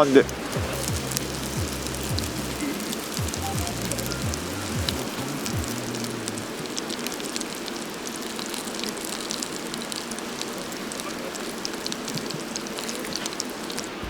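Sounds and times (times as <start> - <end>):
campfire hissing and crackling: 0.0 - 14.0.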